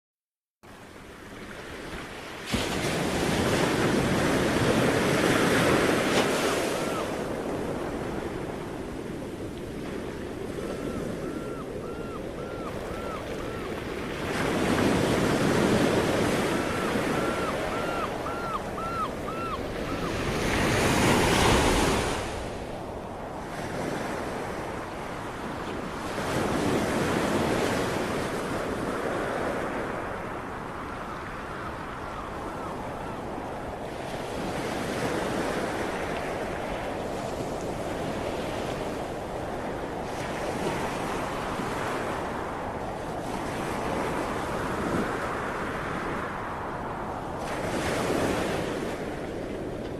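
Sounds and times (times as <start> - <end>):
sea waves breaking: 1.0 - 49.9.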